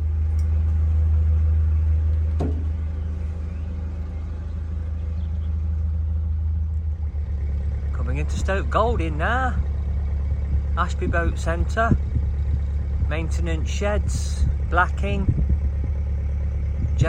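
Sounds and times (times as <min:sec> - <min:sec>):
boat diesel engine humming: 0:00.0 - 0:17.0.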